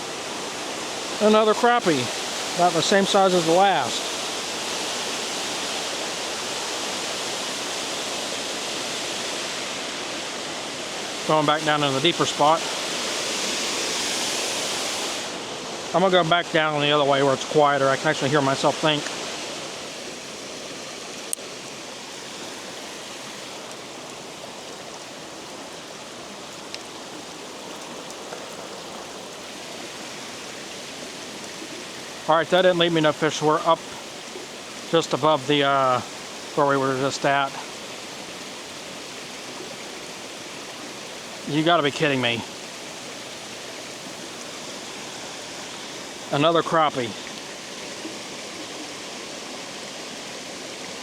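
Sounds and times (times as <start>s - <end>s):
water roaring over spillway: 0.0s - 51.0s.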